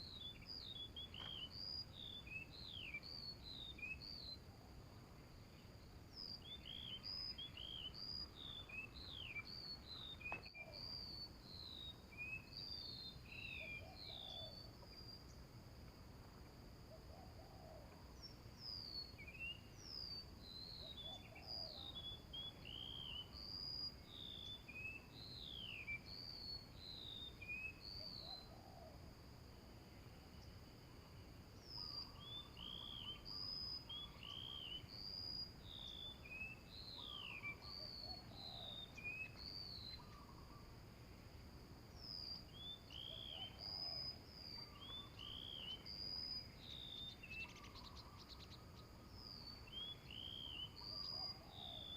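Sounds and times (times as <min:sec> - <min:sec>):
small birds chirping: 0:00.0 - 0:16.0, 0:16.9 - 0:29.0, 0:29.9 - 0:51.9.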